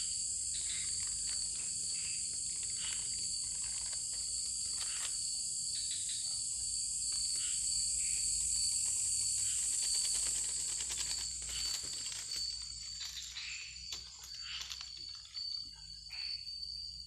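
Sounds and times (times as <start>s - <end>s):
forest insects chorus: 0.0s - 17.0s.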